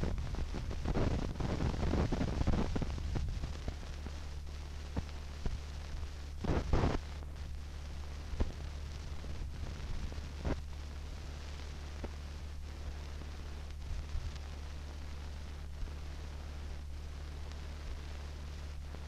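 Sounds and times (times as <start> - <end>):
crackles and pops: 0.0 - 19.0
low hum with hiss: 0.0 - 19.0.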